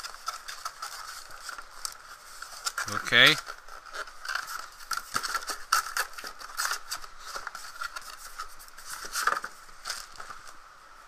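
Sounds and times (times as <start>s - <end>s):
cardboard scraping and rubbing: 0.0s - 10.6s.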